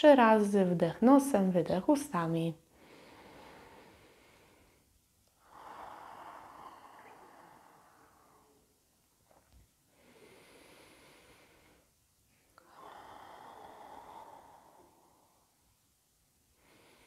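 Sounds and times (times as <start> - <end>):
woman breathing slowly: 2.6 - 17.0.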